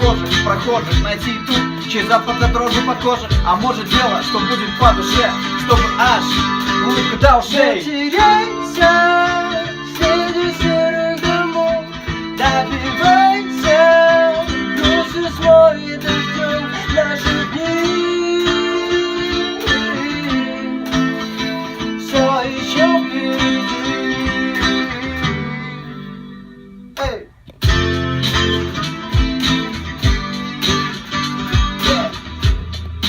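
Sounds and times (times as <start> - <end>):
live band guitars strumming: 0.0 - 33.0.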